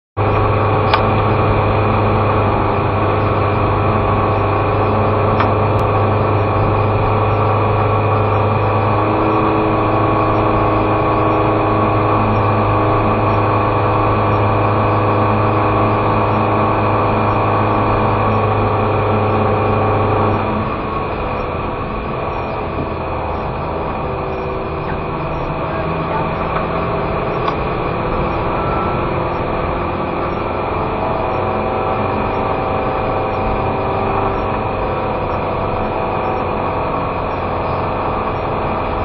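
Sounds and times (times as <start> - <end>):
car engine and tyre drone: 0.2 - 39.0.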